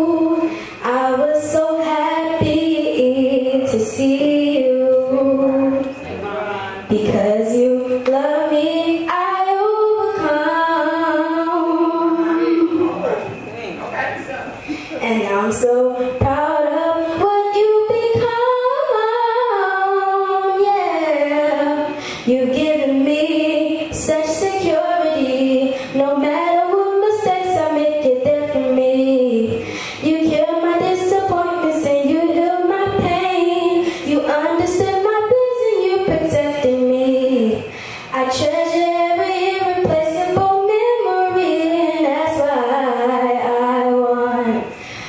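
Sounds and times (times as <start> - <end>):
girl singing into microphone: 0.0 - 13.1, 14.8 - 45.0.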